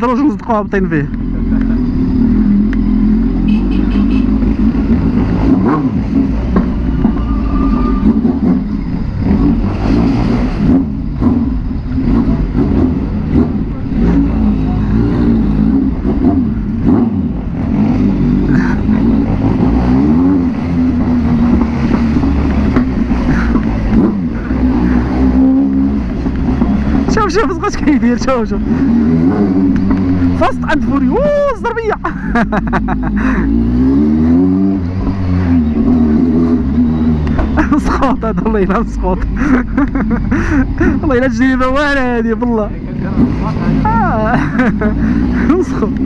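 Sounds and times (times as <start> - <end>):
motorcycle engine at low revs: 0.0 - 7.3, 8.0 - 46.0.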